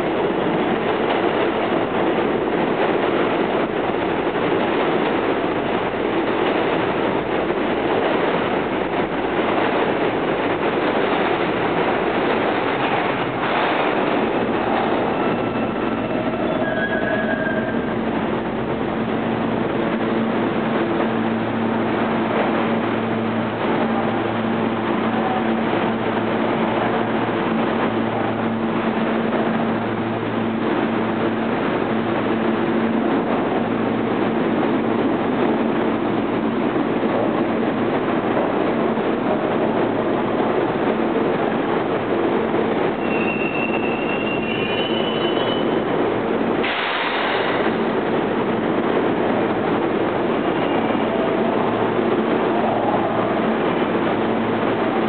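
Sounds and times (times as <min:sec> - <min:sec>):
subway train slowing to a stop: 0:00.0 - 0:55.0
wheels rumbling on rails: 0:00.0 - 0:55.0.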